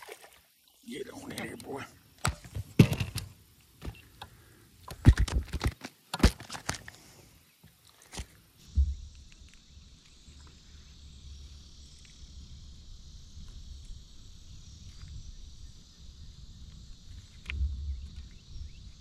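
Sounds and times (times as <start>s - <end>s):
high insect chorus: 0.0s - 19.0s.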